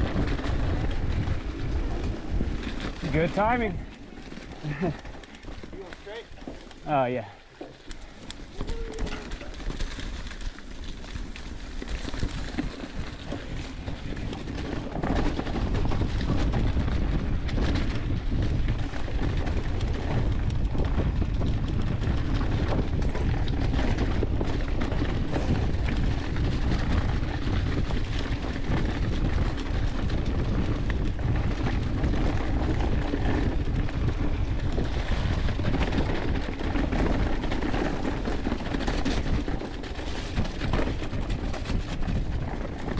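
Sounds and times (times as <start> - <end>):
bike knocking and rattling: 0.0 - 42.9
bike tyres rolling over dry leaves: 0.0 - 42.9
wind rumbling on microphone: 0.0 - 42.9.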